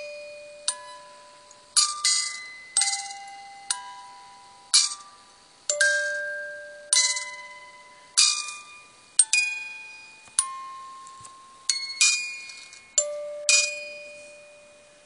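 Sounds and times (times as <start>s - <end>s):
music box playing slow tune: 0.0s - 15.0s.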